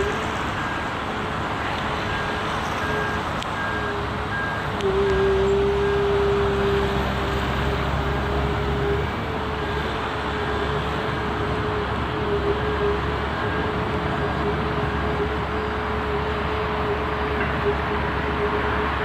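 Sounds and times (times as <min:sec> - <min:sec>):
constant humming tone: 0:00.0 - 0:19.0.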